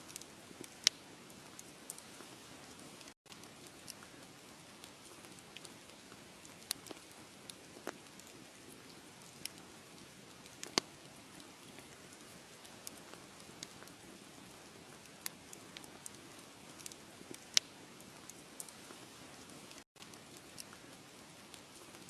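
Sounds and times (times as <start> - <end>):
wood fire crackling and popping: 0.1 - 22.0.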